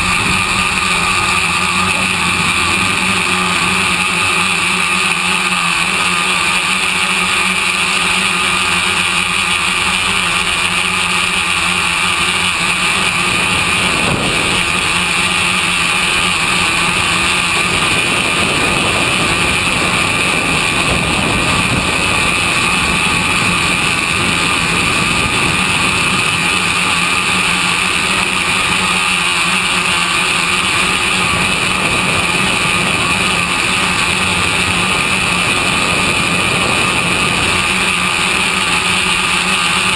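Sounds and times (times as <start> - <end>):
drone propellers buzzing whine: 0.0 - 39.9.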